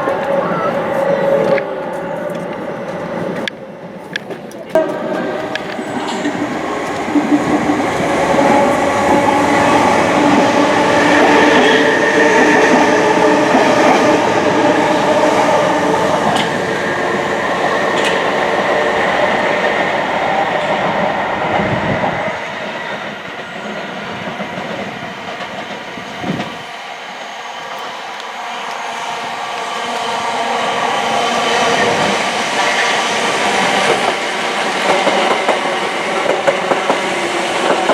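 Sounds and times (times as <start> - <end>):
passenger train passing: 0.0 - 37.9.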